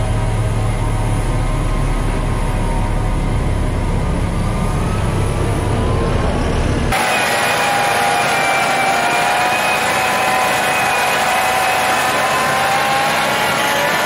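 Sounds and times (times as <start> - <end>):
snowblower high whine: 0.0 - 14.0
tractor engine rumbling: 0.0 - 14.0.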